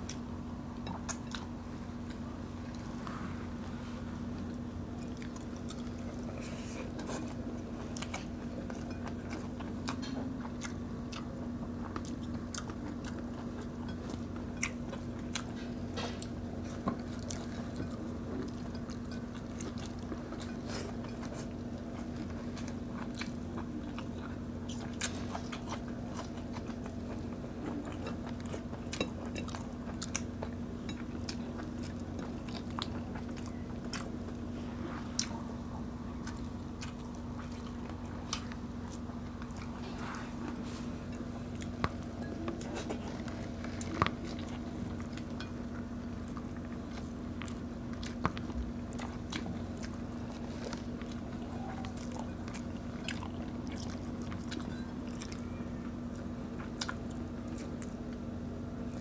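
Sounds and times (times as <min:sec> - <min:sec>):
chewing food: 0:00.0 - 0:59.0
steady low hum: 0:00.0 - 0:59.0.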